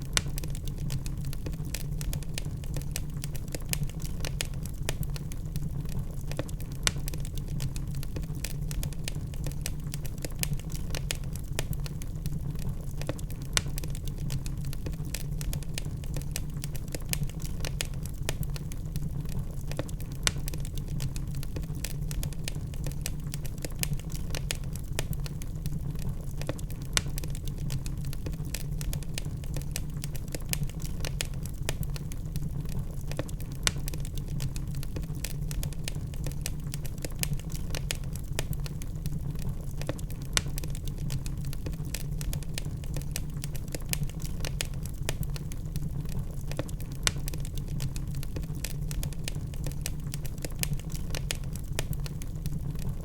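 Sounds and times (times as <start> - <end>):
log fire crackling: 0.0 - 53.0
low rumble of fire: 0.0 - 53.0.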